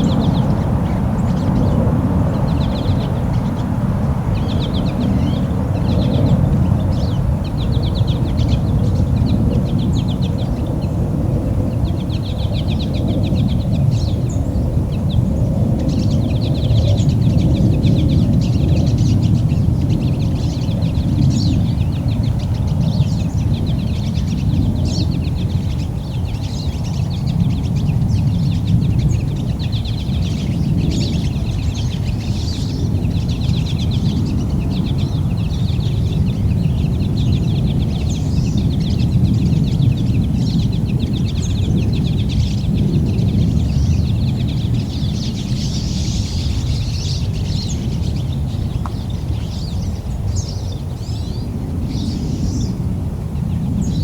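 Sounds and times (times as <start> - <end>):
songbirds calling: 0.0 - 54.0.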